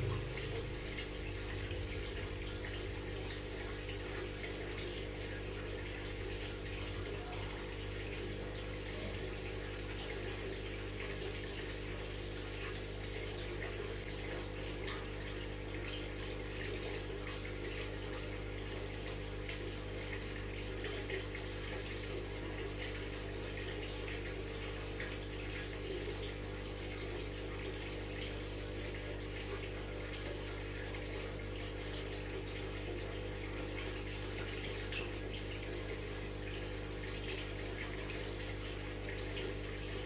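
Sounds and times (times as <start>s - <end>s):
aquarium pump hum: 0.0s - 40.0s
water trickling and bubbling: 0.0s - 40.0s.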